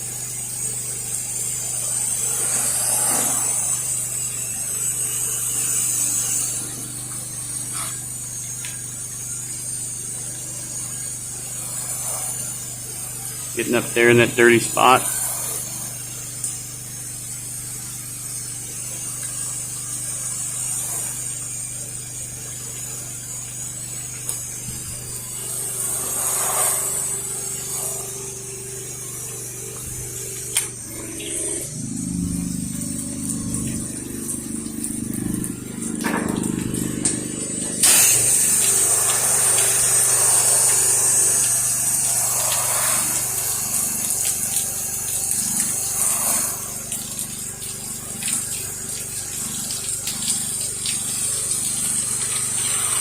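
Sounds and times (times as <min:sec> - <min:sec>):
pressure washer spraying water: 0:00.0 - 0:53.0.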